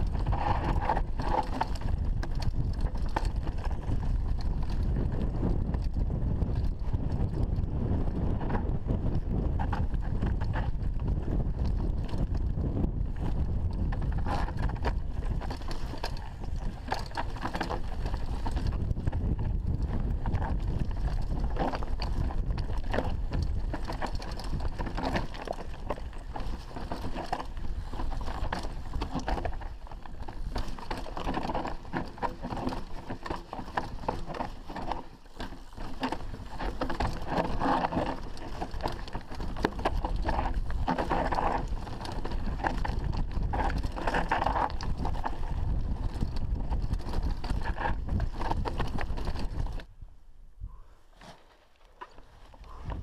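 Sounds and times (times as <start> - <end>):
bike clattering: 0.0 - 7.5, 13.0 - 49.8
tyres crunching over stones: 0.0 - 49.9, 51.2 - 53.0
low wind rumble on microphone: 0.0 - 51.2, 52.2 - 53.0.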